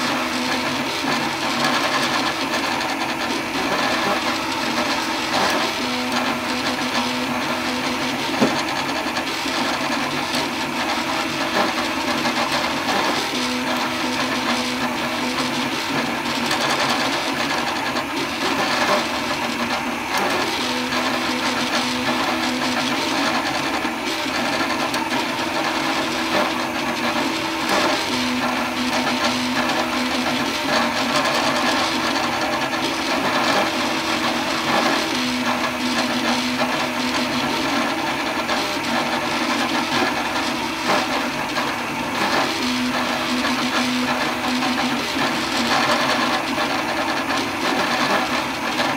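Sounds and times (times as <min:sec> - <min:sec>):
stepper motors whining: 0:00.0 - 0:48.6
cooling fan whirring: 0:00.0 - 0:48.9.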